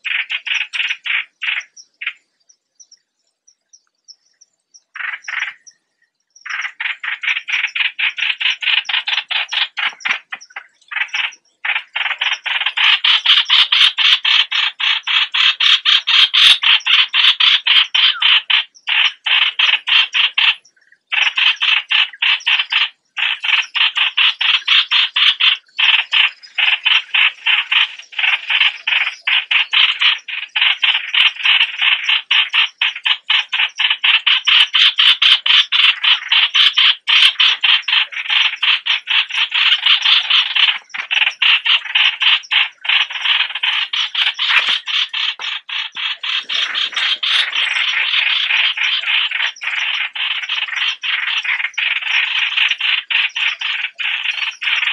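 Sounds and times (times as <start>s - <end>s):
bulbul chattering calls: 0.0s - 54.9s.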